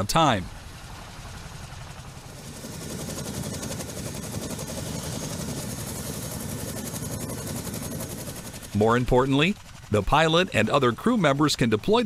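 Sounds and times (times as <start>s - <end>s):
faint high turbine whine: 0.0s - 12.0s
helicopter rotor blades chopping: 0.0s - 12.0s.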